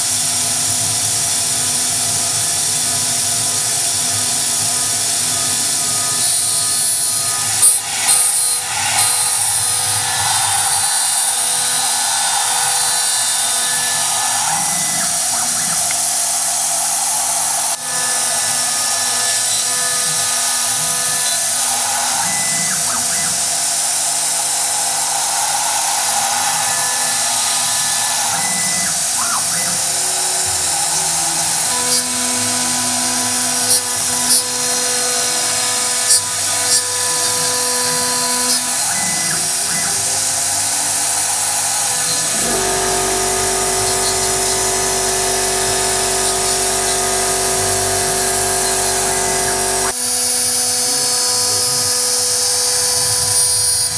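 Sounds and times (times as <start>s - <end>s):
router spindle whining: 0.0s - 53.9s.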